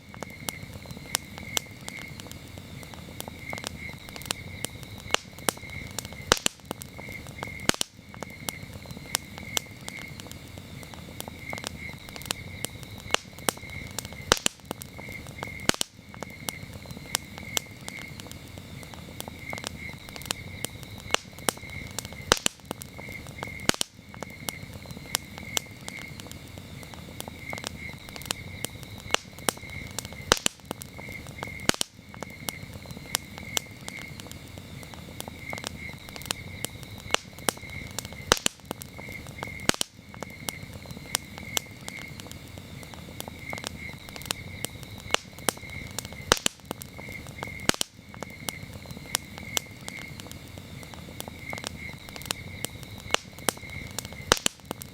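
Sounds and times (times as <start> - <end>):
campfire crackling and popping: 0.0 - 54.9
crickets chirping: 0.0 - 54.9.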